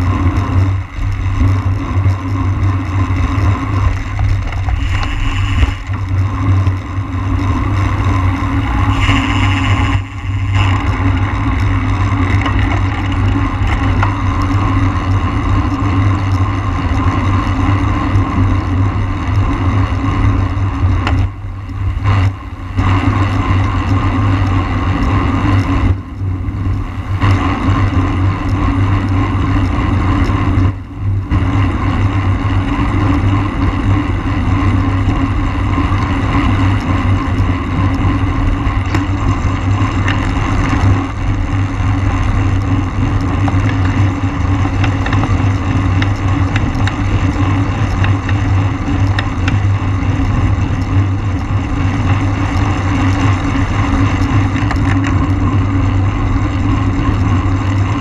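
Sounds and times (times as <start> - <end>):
bicycle road rumble: 0.0 - 58.0
wind rush on microphone: 0.0 - 58.0.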